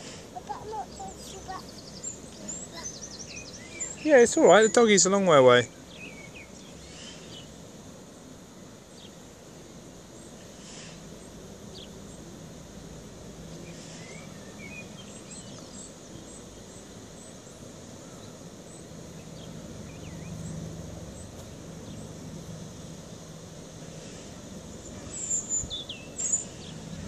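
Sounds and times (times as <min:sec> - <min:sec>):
birds chirping: 0:00.0 - 0:12.4, 0:13.4 - 0:27.0
steady background hiss: 0:00.0 - 0:27.0.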